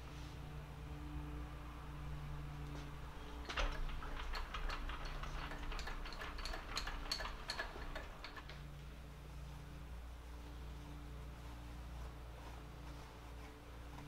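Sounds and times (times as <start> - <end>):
low steady shop hum: 0.0 - 14.0.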